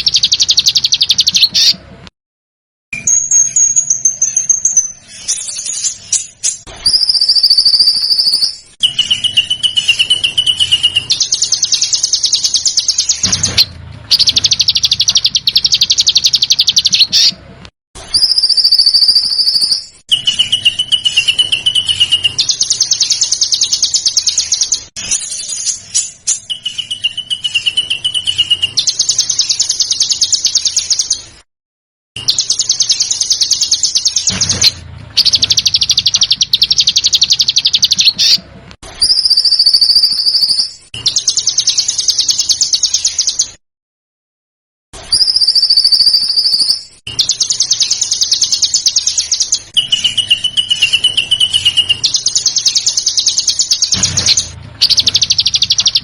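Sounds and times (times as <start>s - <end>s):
songbird whistles and buzzy trills: 0.0s - 1.8s, 3.0s - 17.4s, 18.0s - 31.4s, 32.2s - 43.6s, 45.0s - 56.0s.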